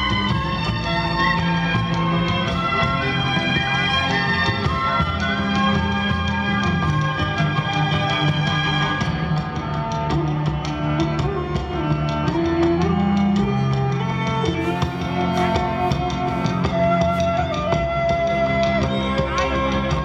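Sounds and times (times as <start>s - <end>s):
instrumental music with drums: 0.0s - 20.0s.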